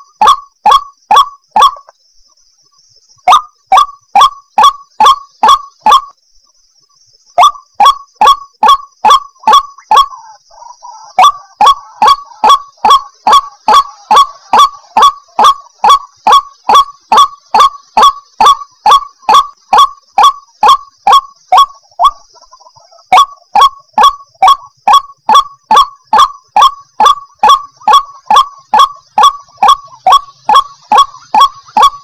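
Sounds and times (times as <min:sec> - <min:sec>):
waterhen calling: 0:00.0 - 0:02.0, 0:03.3 - 0:06.1, 0:07.4 - 0:32.0.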